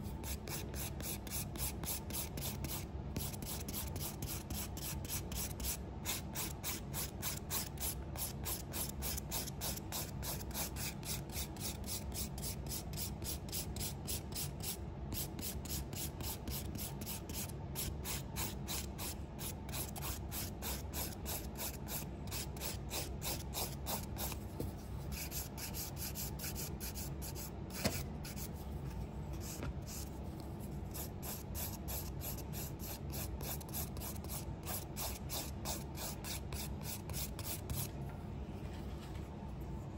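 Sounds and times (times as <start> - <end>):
nail file rasping on nail: 0.2 - 24.4, 25.1 - 28.5, 30.9 - 37.9.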